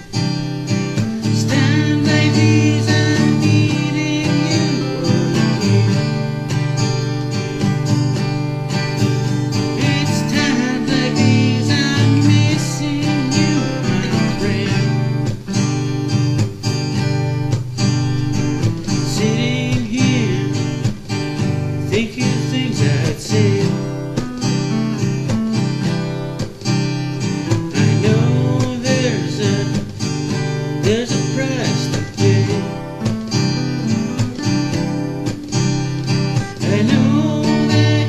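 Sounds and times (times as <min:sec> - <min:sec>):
acoustic guitar strumming chords: 0:00.0 - 0:38.0
guitar lead melody: 0:00.0 - 0:38.0.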